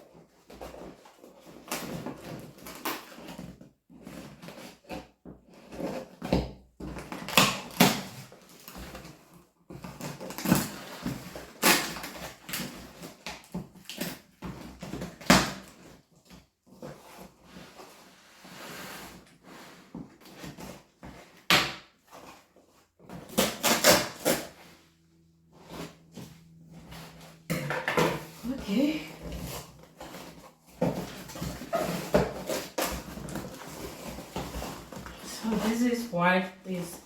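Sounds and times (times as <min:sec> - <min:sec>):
box packaging being handled: 0:00.1 - 0:37.0.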